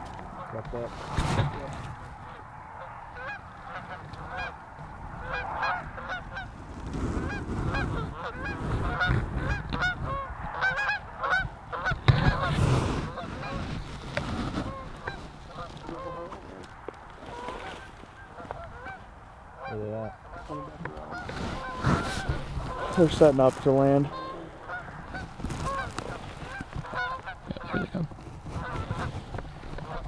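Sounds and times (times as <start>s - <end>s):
geese honking and clucking: 0.0s - 30.0s.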